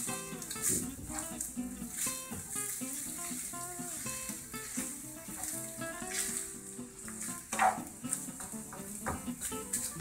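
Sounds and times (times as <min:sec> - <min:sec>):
fish sizzling in oil: 0:00.0 - 0:10.0
spatula scraping a pan: 0:00.0 - 0:10.0.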